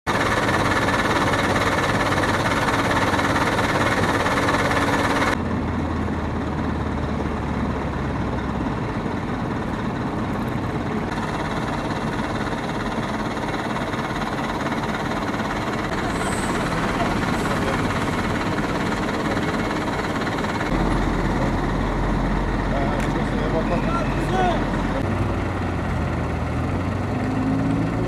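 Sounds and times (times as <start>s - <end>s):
vehicle engine idling: 0.1s - 28.0s.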